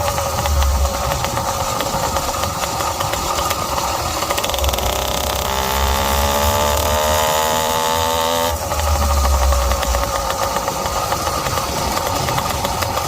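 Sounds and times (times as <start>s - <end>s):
two-stroke moped engine running: 0.0s - 13.0s.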